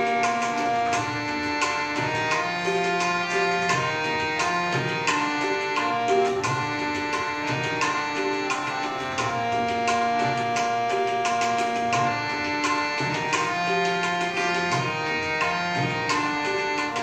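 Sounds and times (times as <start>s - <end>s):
melody of held notes: 0.0s - 17.0s
tabla playing a beat: 0.0s - 17.0s.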